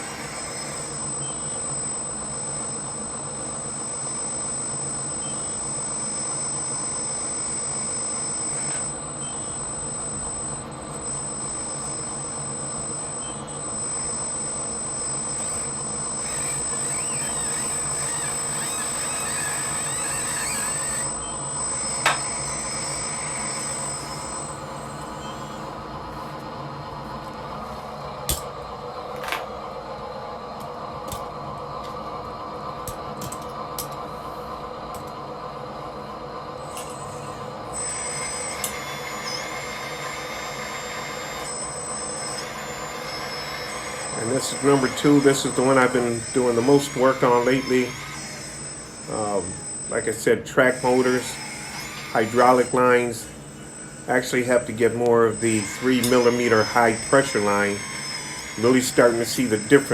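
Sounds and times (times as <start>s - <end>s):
high whine of motors and pump: 0.0s - 59.9s.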